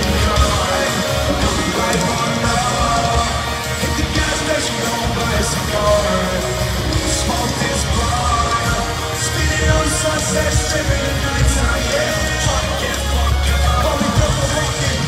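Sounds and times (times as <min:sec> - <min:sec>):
drums: 0:00.0 - 0:15.0
electric guitar: 0:00.0 - 0:15.0
live rock band playing loudly: 0:00.0 - 0:15.0.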